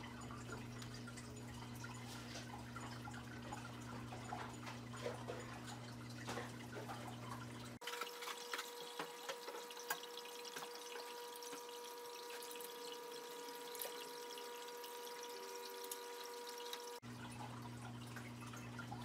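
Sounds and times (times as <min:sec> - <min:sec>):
pump humming: 0:00.0 - 0:19.0
water trickling: 0:00.0 - 0:19.0.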